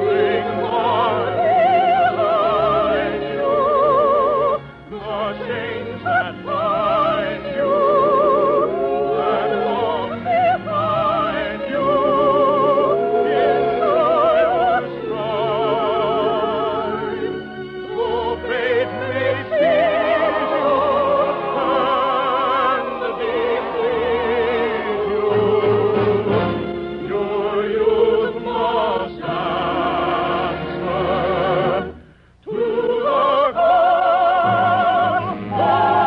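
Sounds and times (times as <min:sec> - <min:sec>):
operatic singing: 0:00.0 - 0:36.0
orchestral accompaniment: 0:00.0 - 0:36.0.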